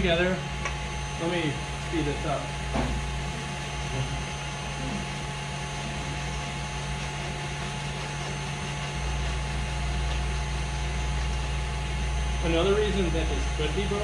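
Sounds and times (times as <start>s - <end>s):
kitchen appliance motor hum: 0.0s - 14.0s.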